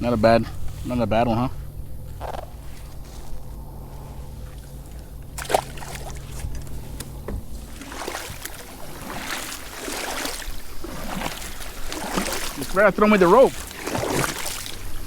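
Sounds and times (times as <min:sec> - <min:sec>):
water sloshing against kayak: 0:00.0 - 0:15.0.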